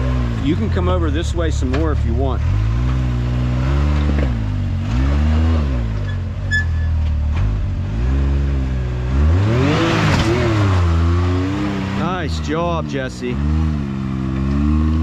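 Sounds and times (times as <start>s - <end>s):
engine revving in throttle bursts: 0.0s - 15.0s.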